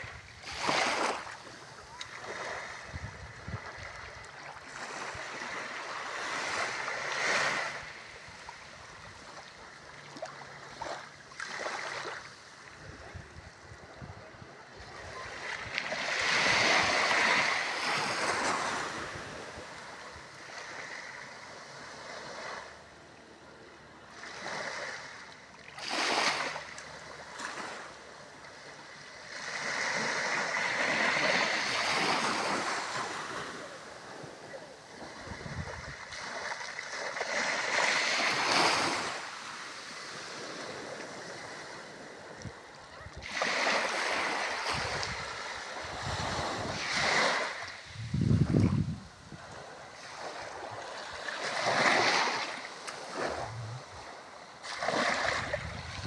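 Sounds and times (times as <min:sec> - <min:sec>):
small waves washing on sand: 0:00.0 - 0:23.1, 0:24.1 - 0:56.0.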